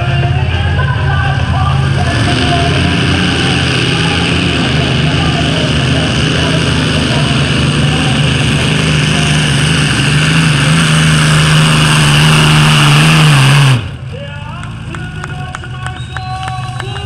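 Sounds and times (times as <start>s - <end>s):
tractor engine running flat out: 0.0s - 17.0s.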